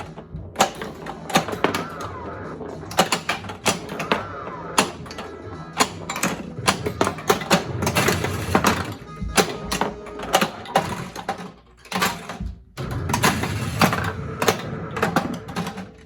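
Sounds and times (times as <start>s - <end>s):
pinball flippers and ball clacking: 0.0s - 16.0s.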